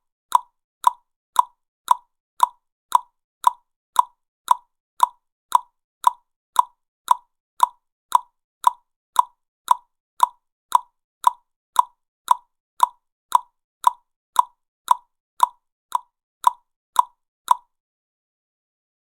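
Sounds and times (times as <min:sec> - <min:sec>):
tongue clicks: 0:00.3 - 0:17.7.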